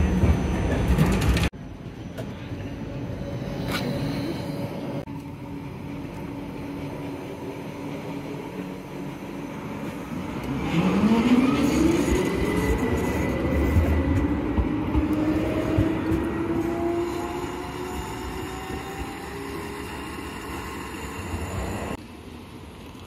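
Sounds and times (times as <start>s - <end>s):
tram motor whine rising: 0.0s - 22.0s
electric tram humming: 0.0s - 23.0s.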